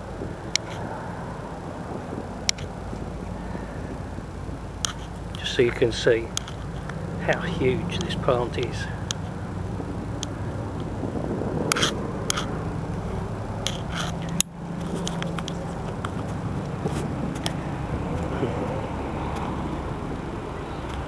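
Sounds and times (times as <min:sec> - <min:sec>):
sharp crackles and clicks: 0:00.0 - 0:21.0
steady low rumble: 0:00.0 - 0:21.0.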